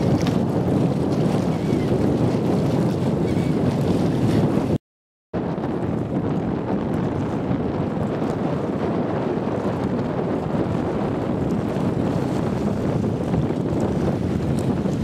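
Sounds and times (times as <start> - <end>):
wind buffeting the microphone: 0.0 - 4.8, 5.4 - 15.0.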